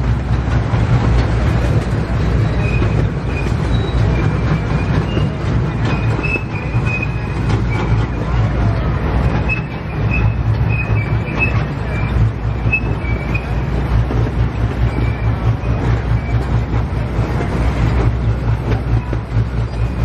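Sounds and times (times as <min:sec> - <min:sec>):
miniature train rumbling on rails: 0:00.0 - 0:20.0.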